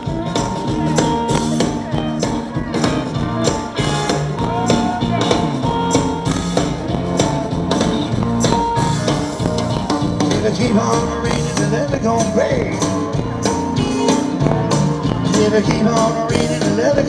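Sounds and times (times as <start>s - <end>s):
bass guitar: 0.0s - 17.0s
drum kit beat: 0.0s - 17.0s
electric guitar: 0.0s - 17.0s.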